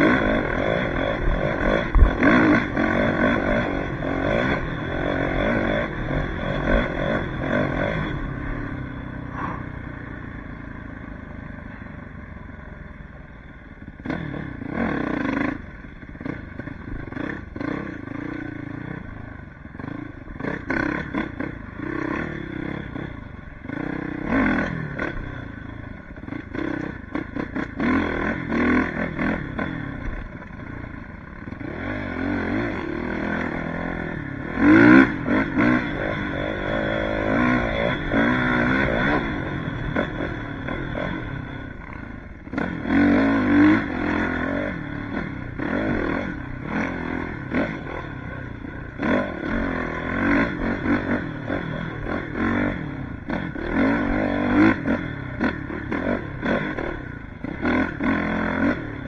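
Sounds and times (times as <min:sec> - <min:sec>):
motocross engine revving: 0:00.0 - 0:11.1, 0:13.8 - 0:59.0.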